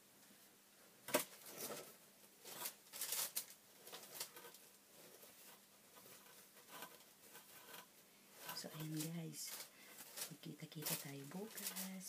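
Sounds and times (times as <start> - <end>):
plastic wrap crinkling: 1.1 - 12.0.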